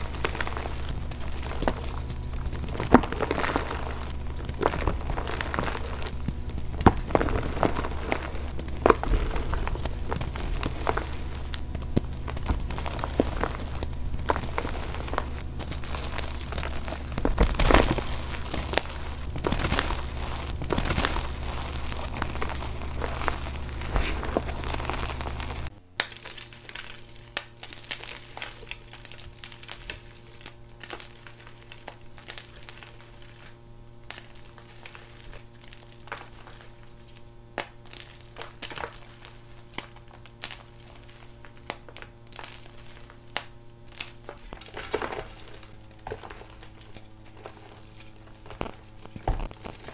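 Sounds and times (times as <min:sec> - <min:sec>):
chalk crunching and crumbling: 0:00.0 - 0:49.9
faint steady hum: 0:00.0 - 0:49.9.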